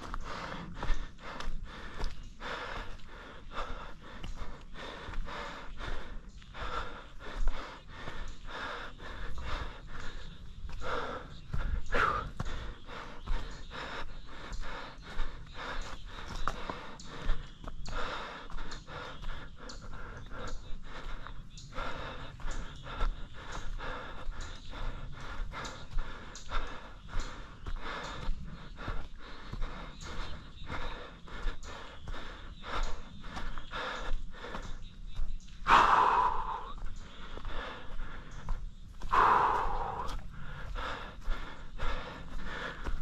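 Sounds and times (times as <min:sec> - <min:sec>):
person panting heavily: 0:00.0 - 0:43.0.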